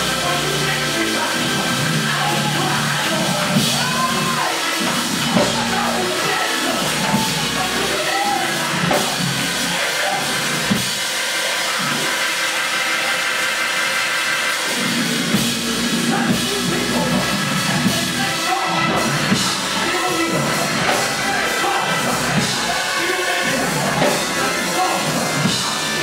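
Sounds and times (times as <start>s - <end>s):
church band music: 0.0s - 26.0s
drum kit beat: 0.0s - 26.0s.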